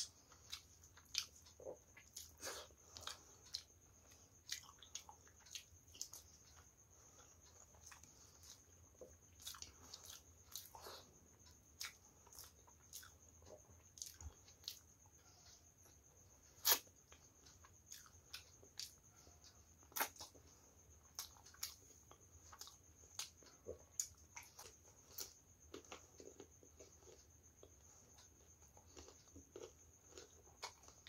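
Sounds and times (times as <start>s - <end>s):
mouth chewing: 0.0s - 16.0s, 16.6s - 31.0s.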